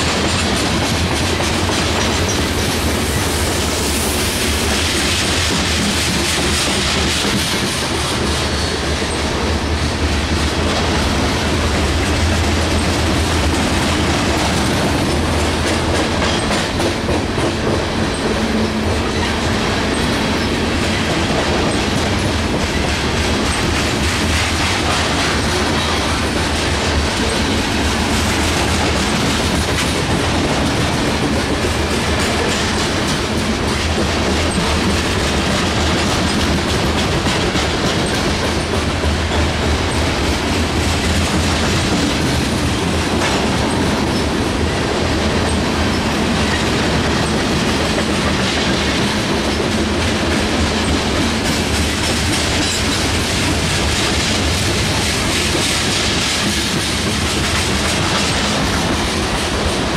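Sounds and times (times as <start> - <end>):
train wheels on rail: 0.0 - 59.9.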